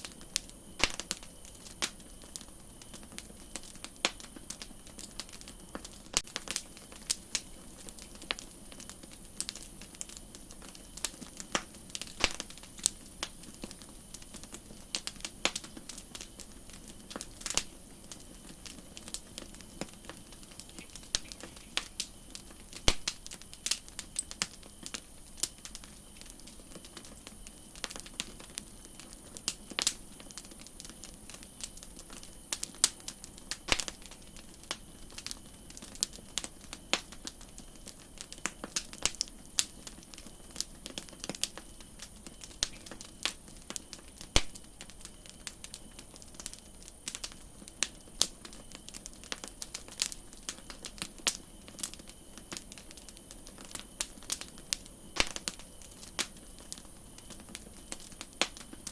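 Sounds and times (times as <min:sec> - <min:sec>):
campfire crackling: 0:00.0 - 0:58.9
faint hiss: 0:00.0 - 0:58.9.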